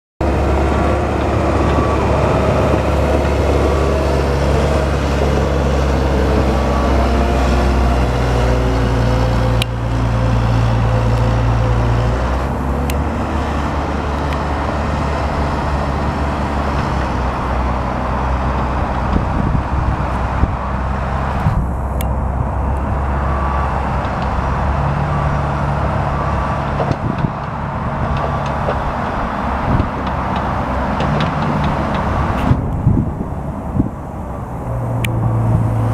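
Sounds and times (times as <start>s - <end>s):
diesel engine running: 0.2s - 35.9s.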